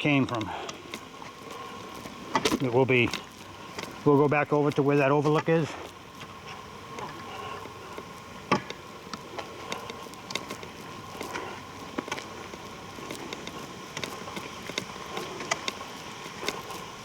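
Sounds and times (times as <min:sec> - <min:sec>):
faint steady whine: 0:00.0 - 0:17.0
footsteps crackling on forest trail: 0:00.0 - 0:17.0.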